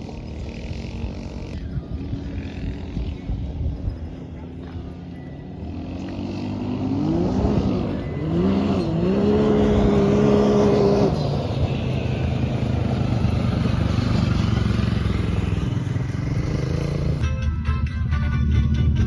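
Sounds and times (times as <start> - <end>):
off-road vehicle engine accelerating: 0.0 - 17.2.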